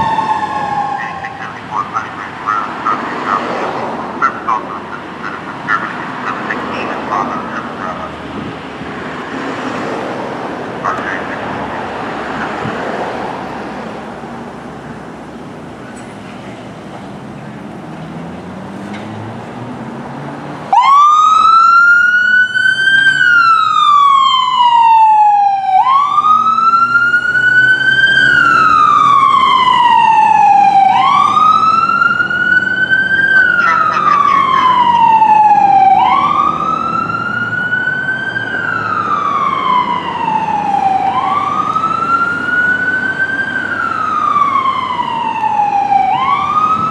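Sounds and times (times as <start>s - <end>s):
ambulance siren wailing: 0.0s - 15.8s, 20.6s - 46.9s
low vehicle noise: 0.0s - 46.9s.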